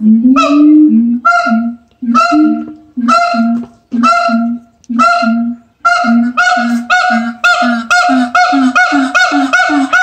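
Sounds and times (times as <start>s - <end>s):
gibbons howling: 0.0s - 10.0s
repeated hooting calls: 0.0s - 10.0s.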